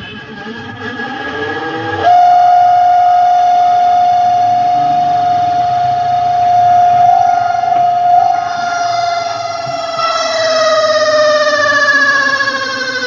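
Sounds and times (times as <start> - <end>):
high-pitched squeal: 0.8 - 13.0.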